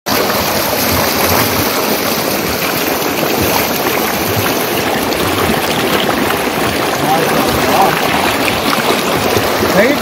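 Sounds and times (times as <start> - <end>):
water gushing into tank: 0.1 - 10.0.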